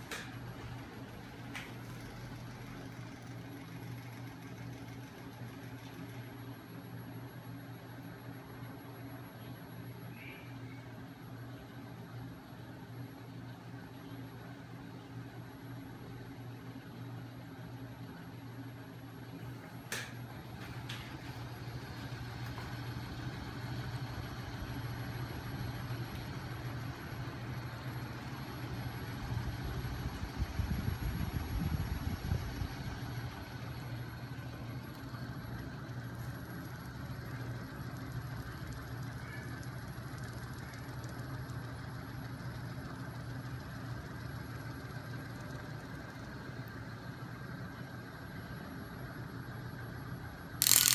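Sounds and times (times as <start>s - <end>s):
electric motor mechanical hum: 0.0s - 50.9s.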